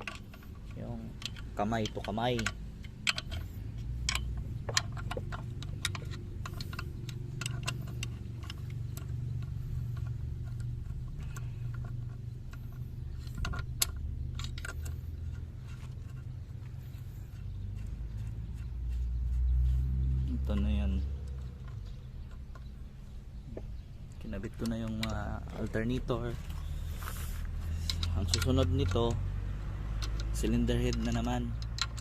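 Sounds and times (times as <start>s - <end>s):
metallic clicks and clinks: 0.0s - 23.2s, 24.0s - 32.0s
steady low hum: 0.0s - 32.0s.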